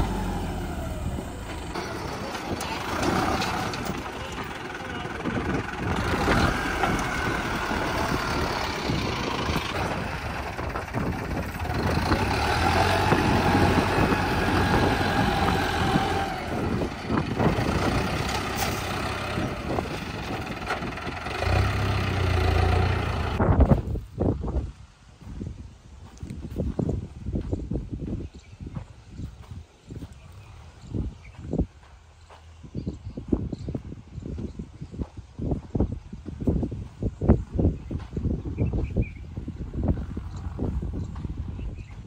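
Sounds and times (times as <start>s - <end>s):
diesel tractor engines running: 0.0s - 24.0s, 26.1s - 42.0s.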